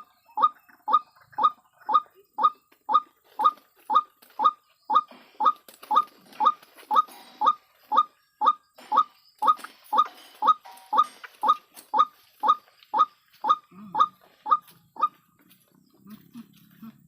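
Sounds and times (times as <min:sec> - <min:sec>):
waterhen calling: 0:00.0 - 0:15.2.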